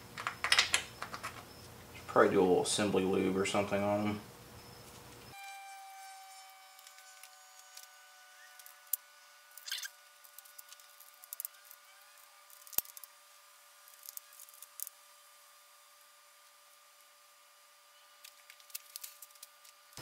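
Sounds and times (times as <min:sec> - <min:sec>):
steady faint hum: 0:00.0 - 0:20.0.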